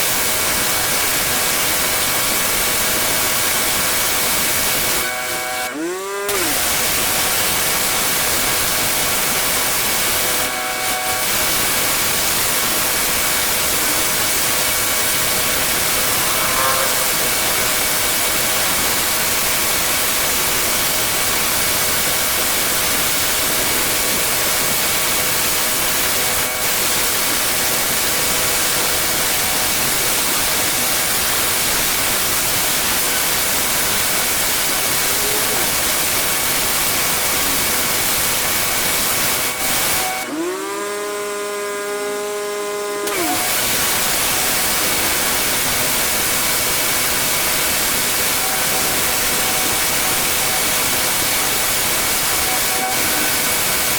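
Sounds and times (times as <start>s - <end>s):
pressure washer motor hum: 0.0s - 53.9s
pressure washer water jet hissing: 0.0s - 53.9s.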